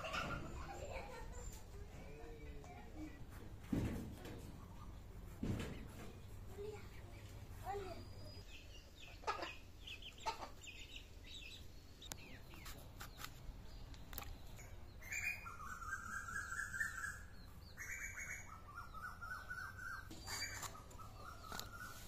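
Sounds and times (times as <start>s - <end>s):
chickens calling: 0.0s - 22.0s.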